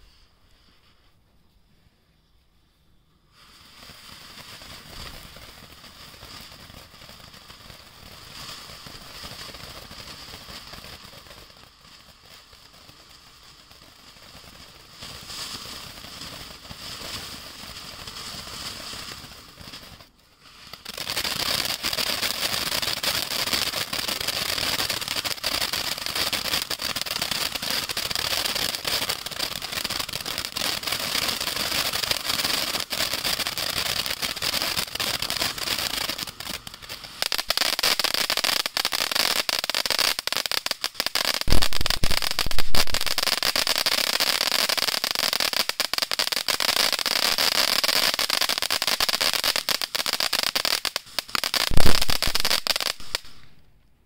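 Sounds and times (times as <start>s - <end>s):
fountain firework hissing and crackling: 0.0s - 1.0s, 3.1s - 53.6s.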